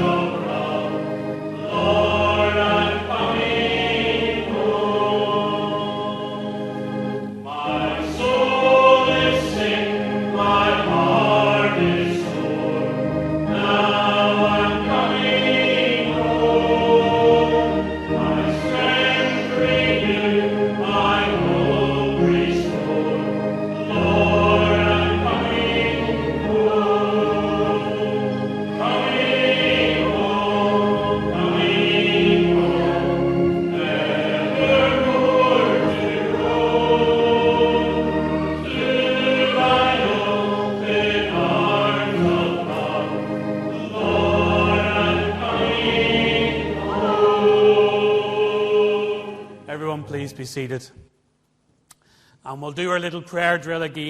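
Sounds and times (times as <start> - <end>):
congregation singing a hymn: 0.0 - 50.0.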